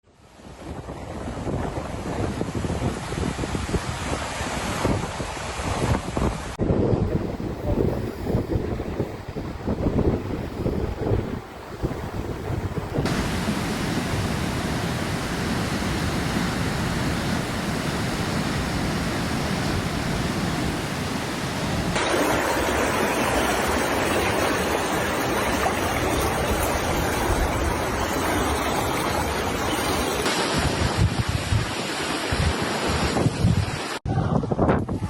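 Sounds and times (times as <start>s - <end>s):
rushing floodwater: 1.2s - 34.0s.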